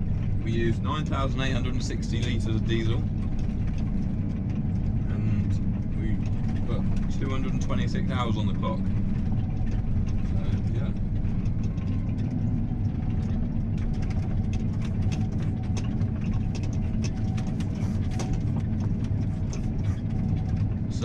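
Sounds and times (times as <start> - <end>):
combine engine rumble: 0.0 - 21.0
light clicks and rattles: 0.1 - 21.0.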